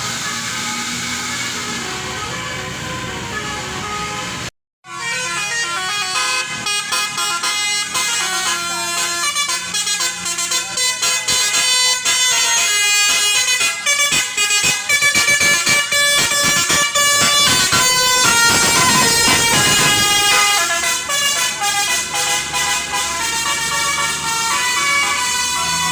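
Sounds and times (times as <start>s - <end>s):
bus horn playing multi-tone tune: 0.0s - 25.9s.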